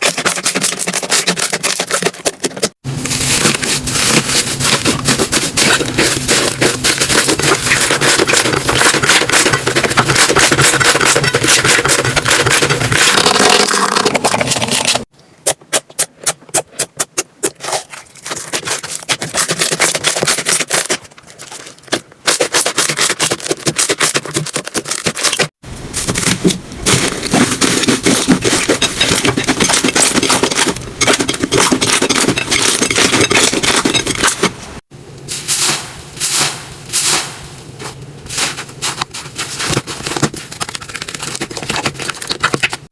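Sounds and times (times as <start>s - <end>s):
slime squishing and crackling: 0.0s - 15.1s, 17.4s - 34.6s, 35.4s - 42.9s.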